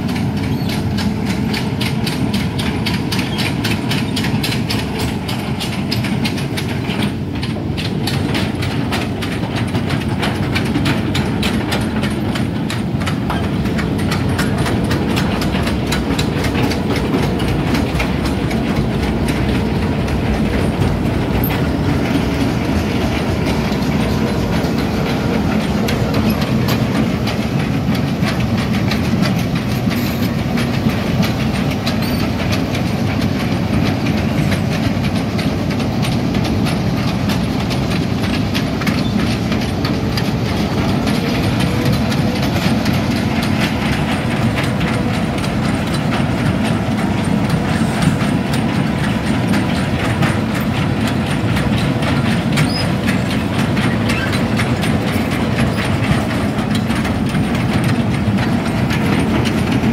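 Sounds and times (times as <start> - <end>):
diesel engine running: 0.0 - 59.9
track chains clattering: 0.0 - 59.9.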